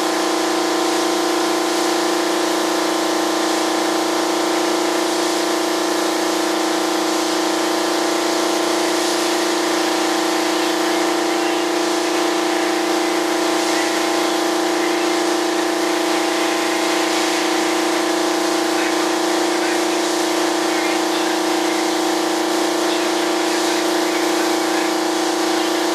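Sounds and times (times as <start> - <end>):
air compressor motor hum: 0.0 - 25.9
spray gun hissing: 0.0 - 25.9.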